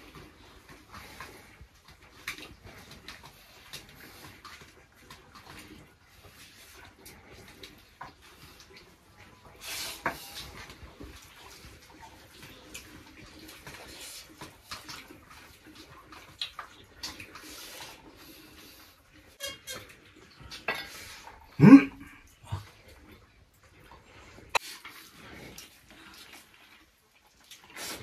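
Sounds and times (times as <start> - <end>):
water splashes: 0.0 - 28.0.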